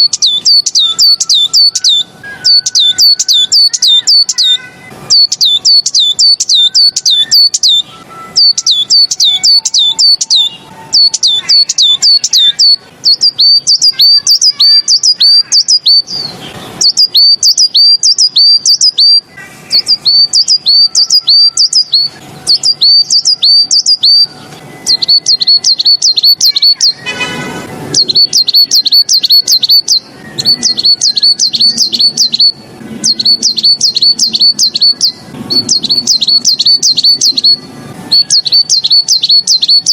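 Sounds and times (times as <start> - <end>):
songbird singing high chirps: 0.0 - 27.0, 27.9 - 39.9.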